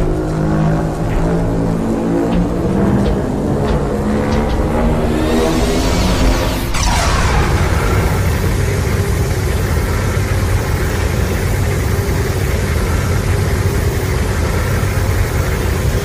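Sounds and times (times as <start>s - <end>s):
loud rumbling beam effect: 0.0s - 15.8s.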